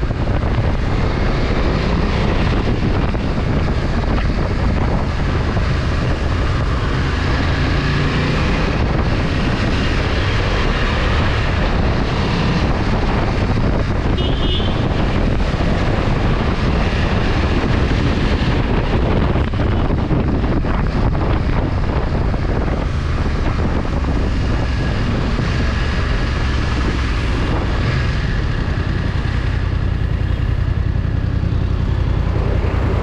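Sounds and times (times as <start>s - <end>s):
motorcycle engine rumble: 0.0s - 33.0s
wind buffeting on microphone: 0.0s - 33.0s.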